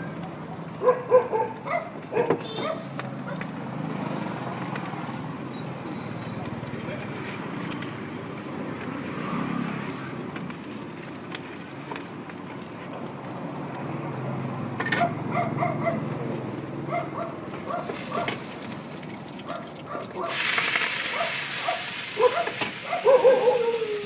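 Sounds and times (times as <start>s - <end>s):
street traffic hum: 0.0s - 24.0s.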